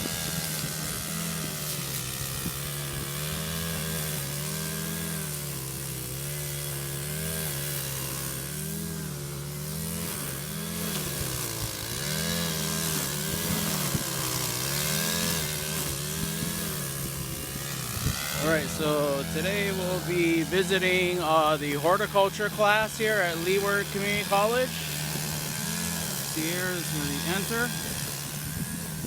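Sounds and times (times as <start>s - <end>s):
engine running with cycling pitch: 0.0s - 29.0s.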